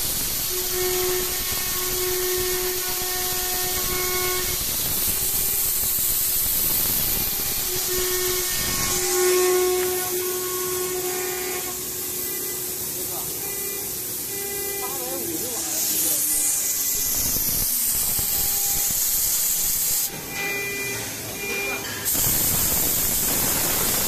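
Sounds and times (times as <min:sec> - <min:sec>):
coolant spray hiss: 0:00.0 - 0:20.1, 0:22.0 - 0:24.0
router spindle whine: 0:00.0 - 0:21.8.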